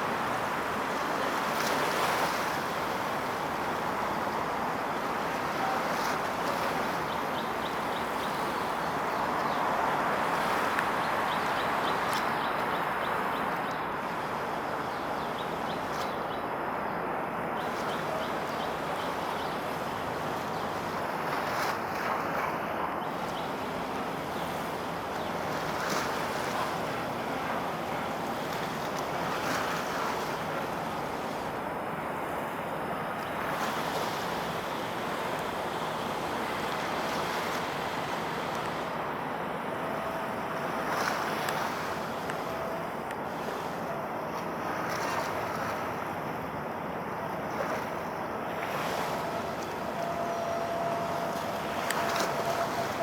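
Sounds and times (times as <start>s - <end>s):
waves washing: 0.0s - 53.0s.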